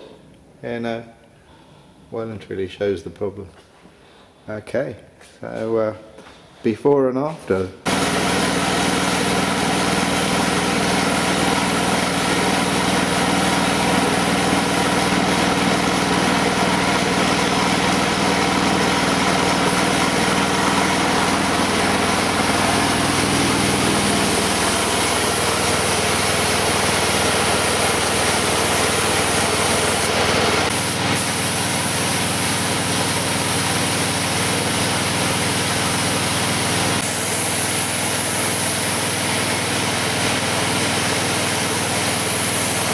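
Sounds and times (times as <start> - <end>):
machine humming with hiss: 7.9 - 42.9.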